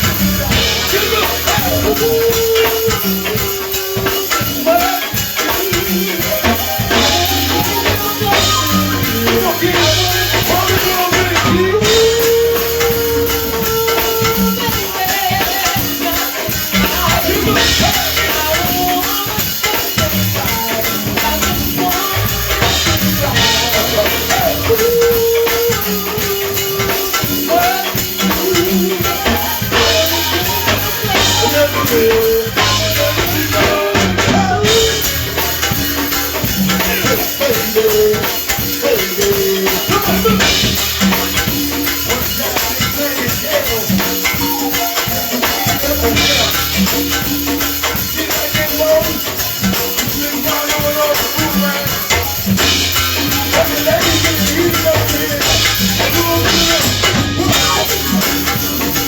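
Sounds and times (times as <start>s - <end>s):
drum kit groove: 0.0s - 59.0s
pitched melody line: 0.0s - 59.0s
shaker percussion: 0.0s - 59.0s.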